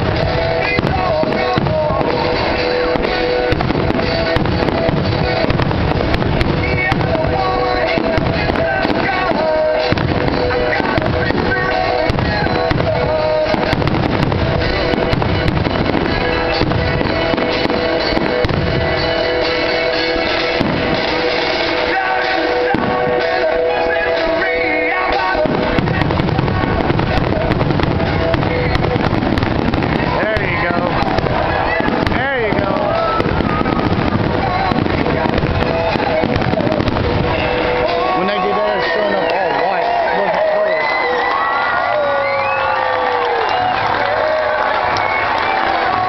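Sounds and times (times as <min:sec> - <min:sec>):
fireworks booming and crackling: 0:00.0 - 0:46.0
music playing: 0:00.0 - 0:46.0.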